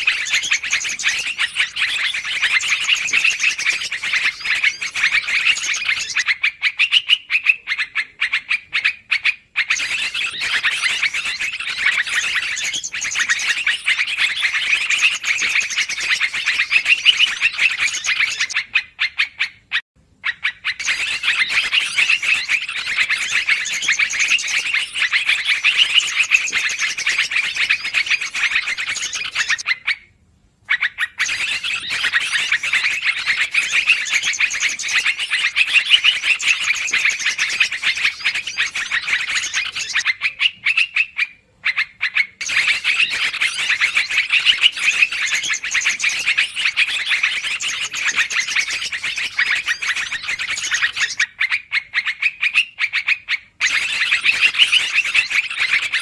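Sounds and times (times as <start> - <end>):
birds chattering calls: 0.0 - 56.0.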